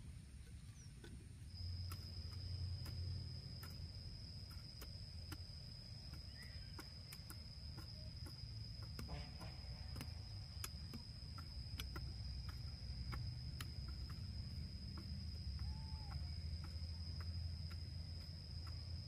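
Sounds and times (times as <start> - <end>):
high-pitched insect trill: 0.8 - 19.0
hoes chopping into soil: 1.0 - 19.0.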